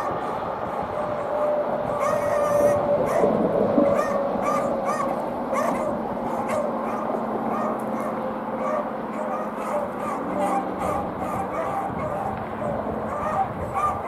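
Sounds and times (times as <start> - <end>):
dogs baying and yelping: 0.0 - 14.0.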